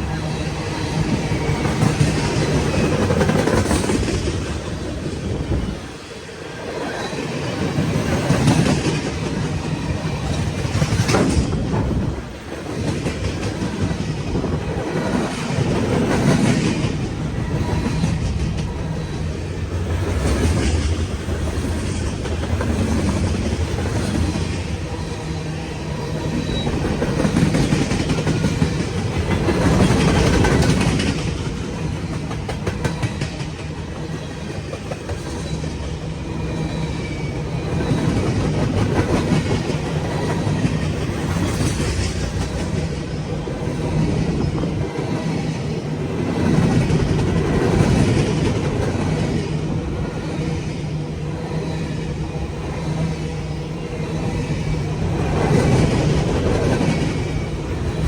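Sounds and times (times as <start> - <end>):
freight train wheels clacking: 0.0 - 58.0
train rumble: 0.0 - 58.0.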